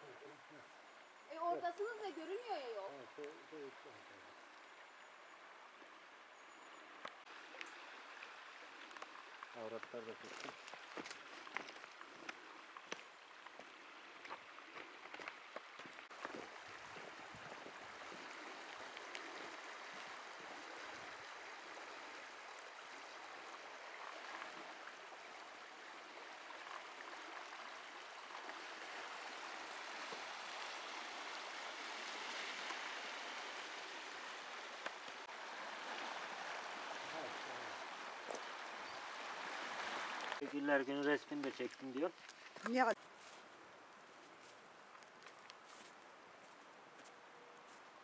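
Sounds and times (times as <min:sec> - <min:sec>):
river water rushing: 0:00.0 - 0:40.8.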